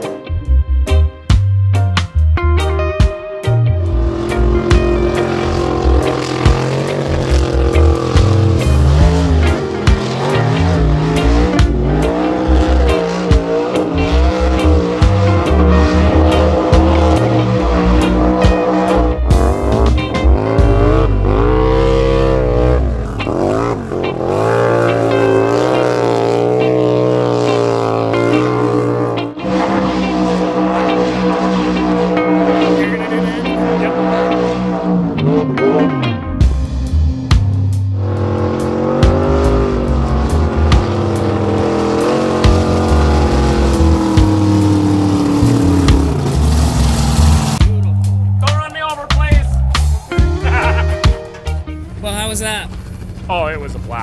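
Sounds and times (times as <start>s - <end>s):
music with heavy bass beat: 0.0s - 52.6s
off-road vehicle engine revving: 0.0s - 54.0s.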